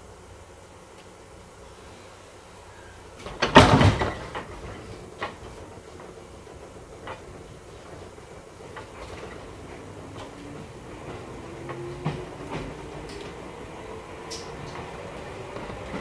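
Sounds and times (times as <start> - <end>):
train clunking: 2.4 - 16.0
wheels clicking over rail joints: 3.0 - 16.0.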